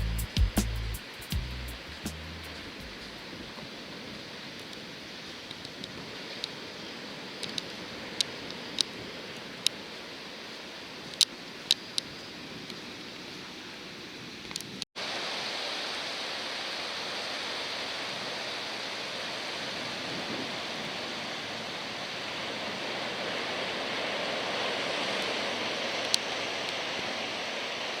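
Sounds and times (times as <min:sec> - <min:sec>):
ocean surf washing on shore: 0:01.0 - 0:28.0.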